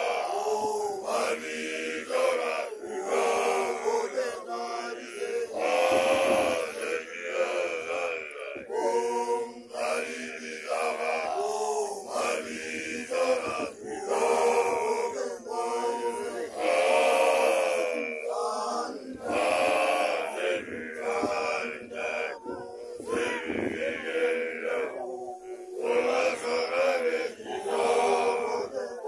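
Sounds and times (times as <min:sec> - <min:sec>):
young men chanting: 0:00.0 - 0:29.0.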